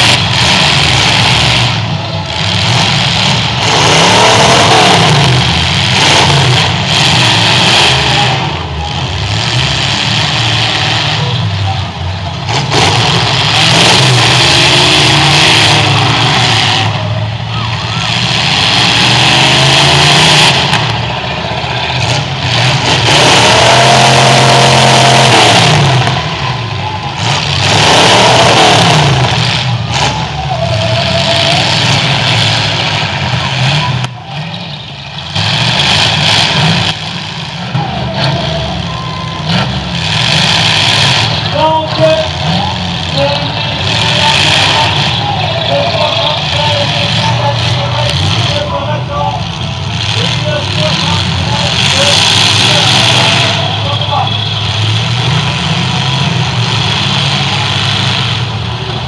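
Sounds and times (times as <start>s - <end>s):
car engines revving hard: 0.0s - 59.0s.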